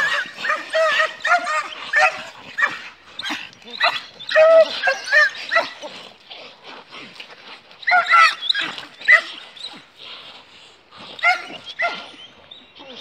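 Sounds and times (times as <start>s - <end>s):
dogs yelping and barking: 0.0s - 10.2s, 10.8s - 13.0s.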